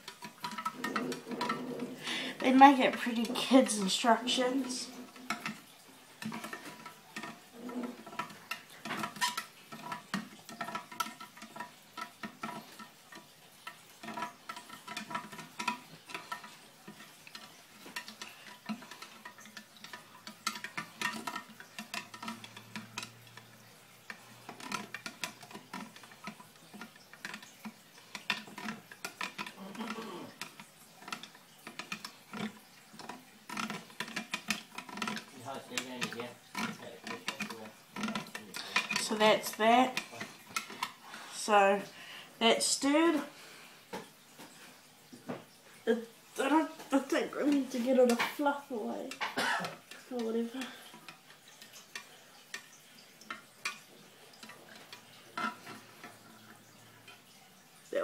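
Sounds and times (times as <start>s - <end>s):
stirrer clicking in water tank: 0.0s - 58.0s.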